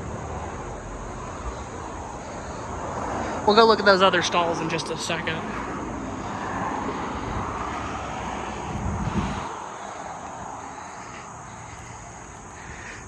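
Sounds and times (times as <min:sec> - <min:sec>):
passing vehicle engine: 0:00.0 - 0:13.0.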